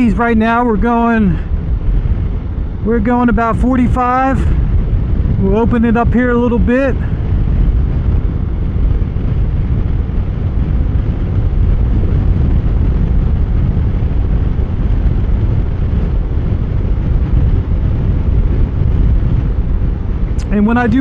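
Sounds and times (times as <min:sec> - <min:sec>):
wind rush and road noise: 0:00.0 - 0:21.0.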